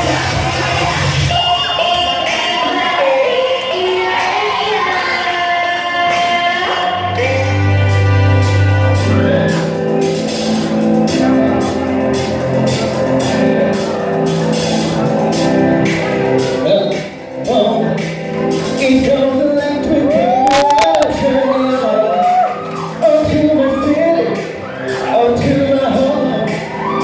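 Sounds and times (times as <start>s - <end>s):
pop music with singing: 0.0s - 27.0s.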